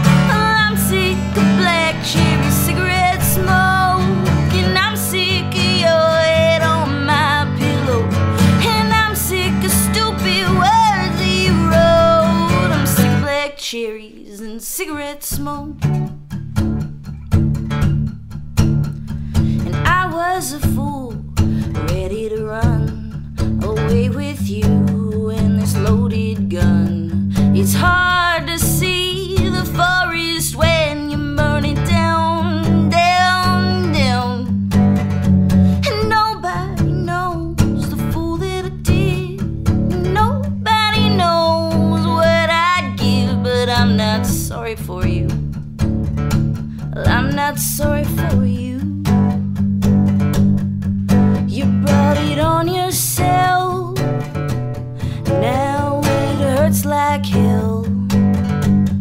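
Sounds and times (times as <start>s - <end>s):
woman singing: 0.0s - 16.1s, 19.4s - 34.9s, 35.6s - 45.6s, 46.8s - 49.5s, 51.2s - 58.6s
acoustic guitar: 0.0s - 59.0s.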